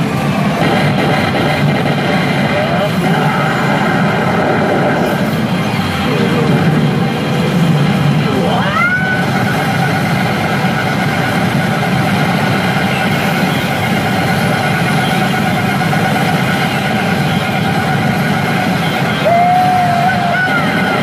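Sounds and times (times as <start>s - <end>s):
overlapping electronic sounds: 0.0s - 21.0s.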